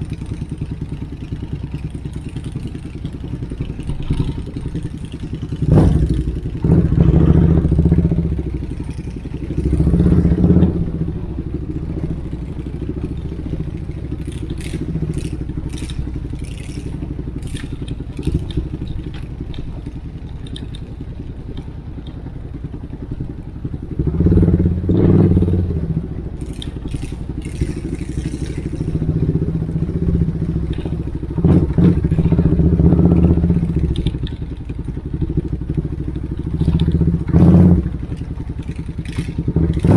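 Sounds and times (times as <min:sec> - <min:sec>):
motorcycle revving: 0:00.0 - 0:39.9.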